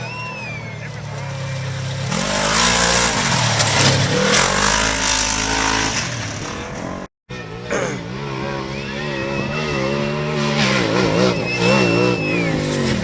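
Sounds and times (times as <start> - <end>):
racing truck engine revving past: 0.1 - 13.0.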